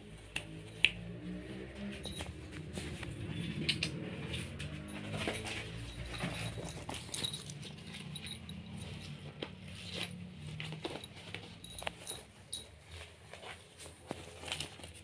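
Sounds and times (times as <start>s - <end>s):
soft pattering and clicks: 0.2s - 15.0s.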